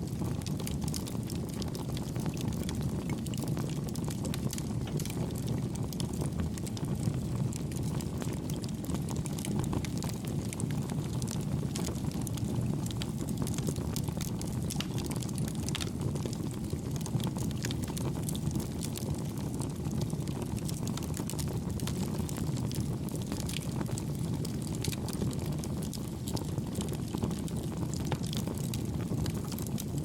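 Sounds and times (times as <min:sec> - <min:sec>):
fire crackles and pops: 0:00.0 - 0:30.0
wood fire rumbling: 0:00.0 - 0:30.0.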